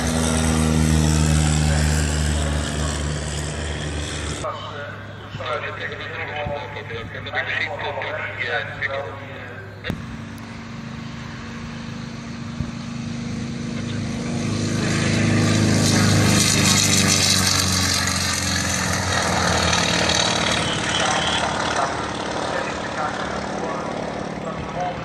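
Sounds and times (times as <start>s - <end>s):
propeller aircraft engine drone: 0.0s - 25.0s.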